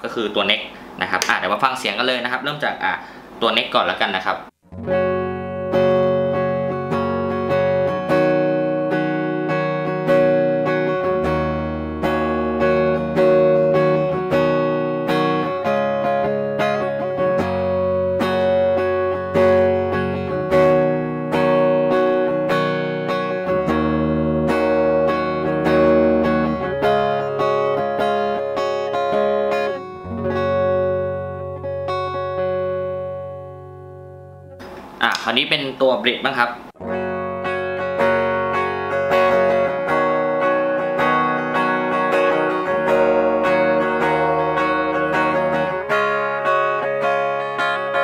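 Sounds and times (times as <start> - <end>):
clean electric guitar chords and notes: 4.6 - 35.1, 36.8 - 48.0.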